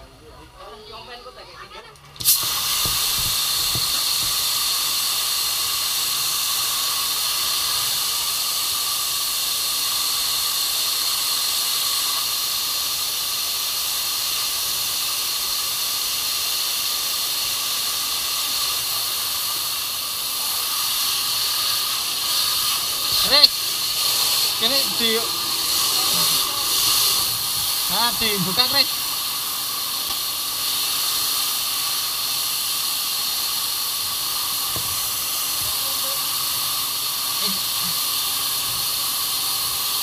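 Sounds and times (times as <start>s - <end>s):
fire extinguisher hissing: 2.2s - 40.0s.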